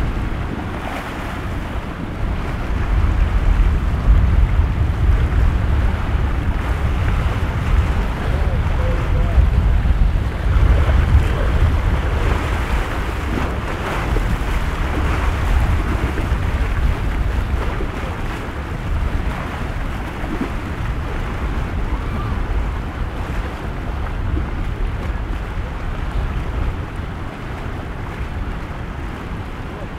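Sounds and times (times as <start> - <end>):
waves and surf: 0.0 - 29.9
wind buffeting microphone: 0.0 - 29.9.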